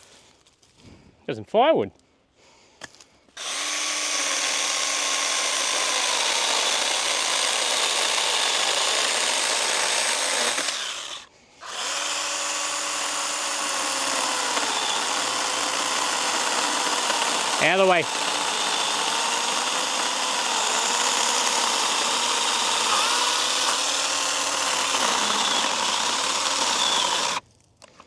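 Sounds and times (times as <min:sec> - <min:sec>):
chainsaw cutting branch: 0:03.4 - 0:27.4.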